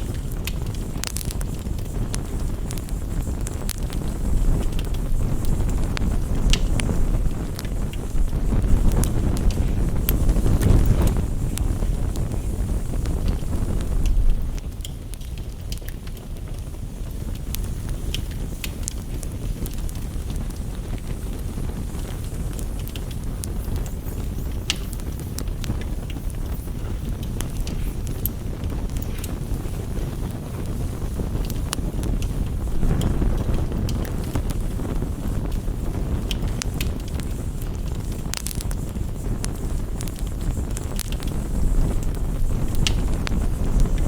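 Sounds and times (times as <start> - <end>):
campfire crackling: 0.0 - 44.0
rain tapping on window: 0.0 - 44.0.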